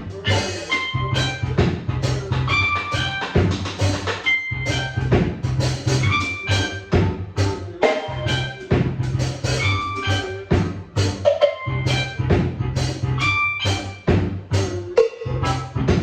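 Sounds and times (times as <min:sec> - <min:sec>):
keyboard held notes: 0:00.0 - 0:16.0
reggae drum kit: 0:00.0 - 0:16.0
repeating bass line: 0:00.0 - 0:16.0.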